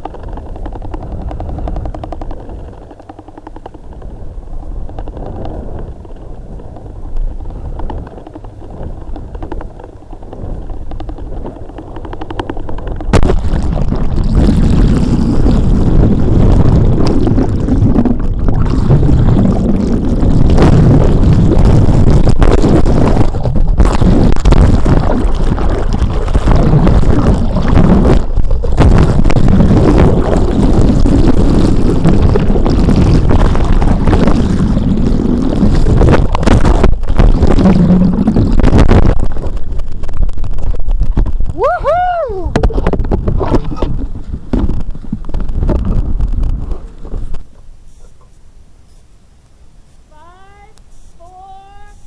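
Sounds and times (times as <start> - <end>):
strong wind buffeting microphone: 0.0 - 48.2.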